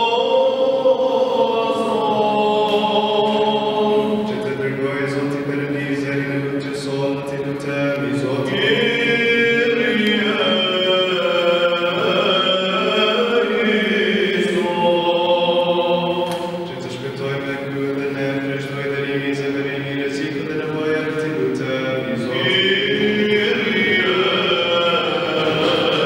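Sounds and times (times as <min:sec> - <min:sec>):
men chanting in church: 0:00.0 - 0:26.0.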